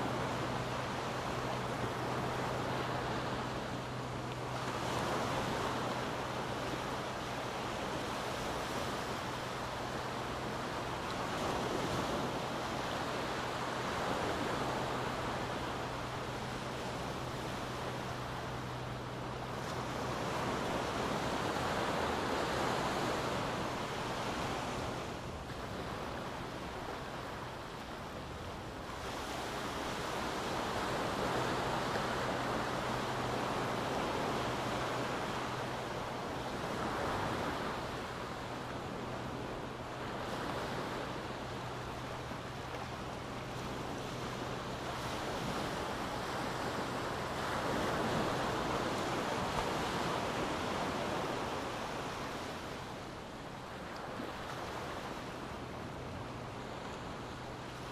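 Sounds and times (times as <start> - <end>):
ocean waves breaking on beach: 0.0 - 57.9.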